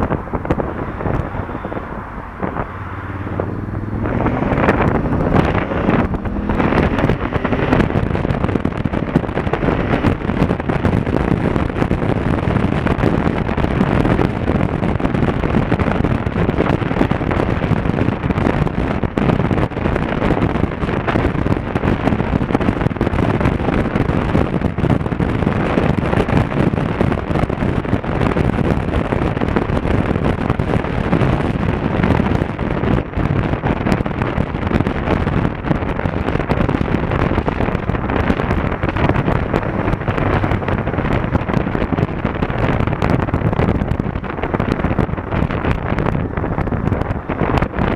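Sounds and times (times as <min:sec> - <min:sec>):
motorcycle engine running: 0:00.0 - 0:47.9
wind buffeting microphone: 0:00.0 - 0:47.9.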